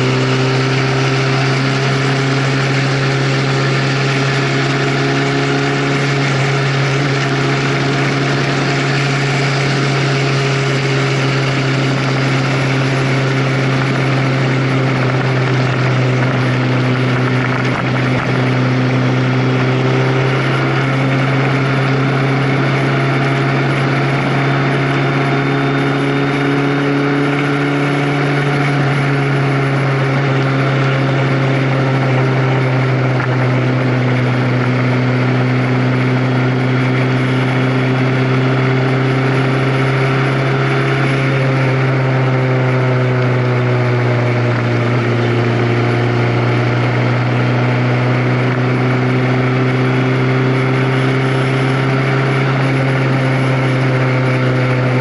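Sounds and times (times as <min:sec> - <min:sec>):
vehicle engine drone: 0:00.0 - 0:55.0
wind and road noise: 0:00.0 - 0:55.0.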